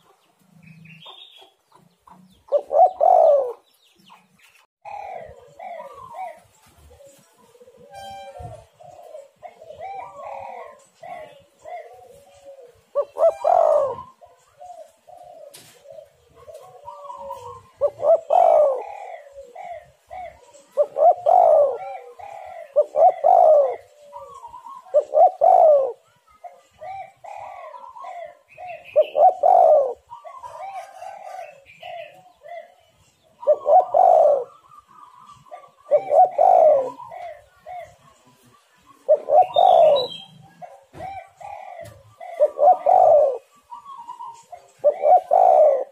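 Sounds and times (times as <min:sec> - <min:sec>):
doves cooing: 0:00.0 - 0:45.9.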